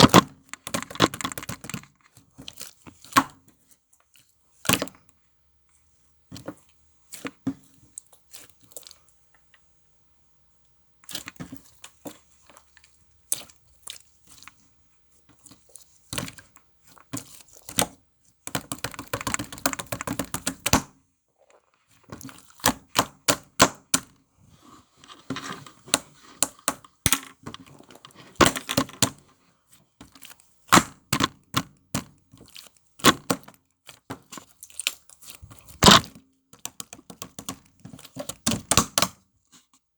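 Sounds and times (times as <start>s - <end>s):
crinkling and crackling: 0.0s - 9.8s, 11.0s - 20.7s, 21.3s - 22.9s, 24.4s - 30.6s, 32.2s - 38.5s.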